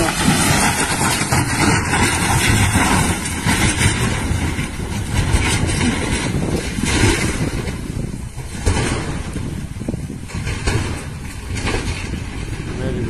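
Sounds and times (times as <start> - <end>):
truck tumbling down hillside: 0.0 - 12.8.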